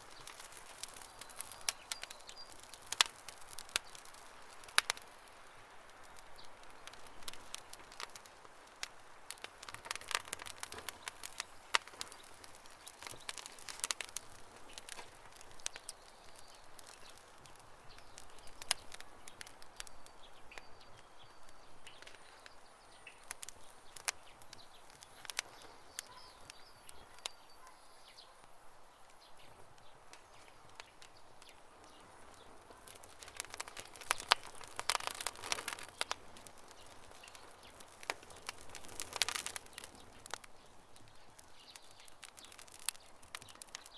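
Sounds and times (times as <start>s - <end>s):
campfire crackling: 0.0s - 43.9s
soft hiss: 0.0s - 43.9s.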